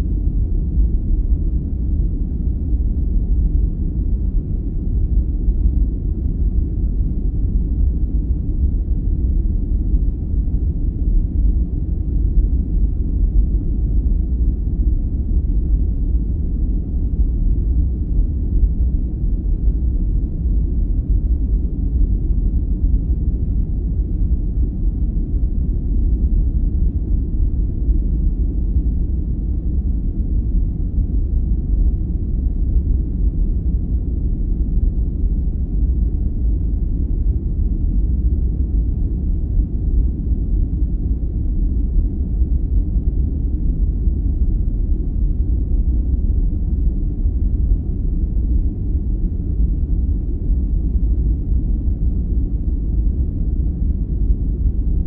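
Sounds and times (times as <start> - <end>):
deep even brown noise rumble: 0.0 - 55.0.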